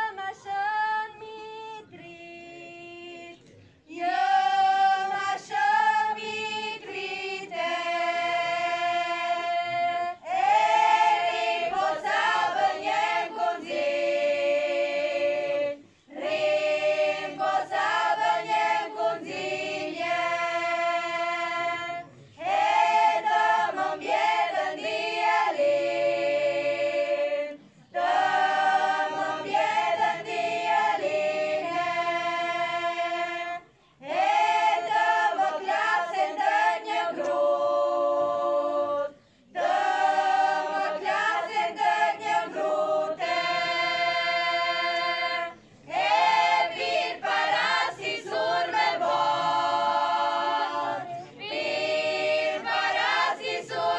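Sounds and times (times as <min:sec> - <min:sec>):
women's choir singing folk song: 0:00.0 - 0:53.9.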